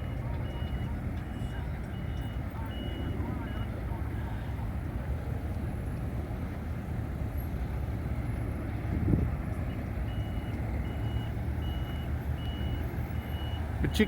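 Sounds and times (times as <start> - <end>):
heavy construction vehicles: 0.0 - 14.0
road traffic rumble: 0.0 - 14.0.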